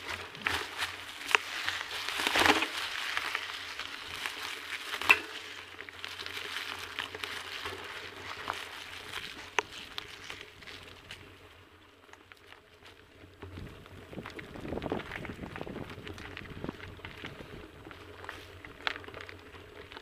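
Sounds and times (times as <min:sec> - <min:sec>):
bicycle tyres crunching on leaves: 0:00.0 - 0:20.0
bike rattling and knocking: 0:00.0 - 0:20.0.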